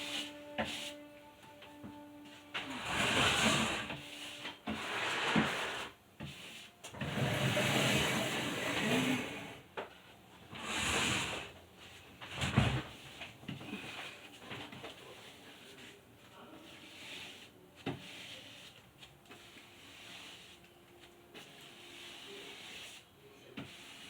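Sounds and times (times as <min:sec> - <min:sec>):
paint roller rasping on wall: 0:00.0 - 0:01.1, 0:02.3 - 0:09.6, 0:10.5 - 0:24.0.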